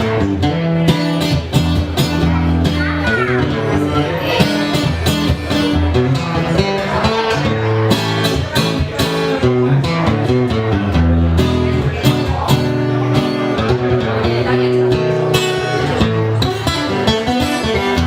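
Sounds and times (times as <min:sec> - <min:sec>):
bass line: 0:00.0 - 0:18.0
live band playing guitars: 0:00.0 - 0:18.0.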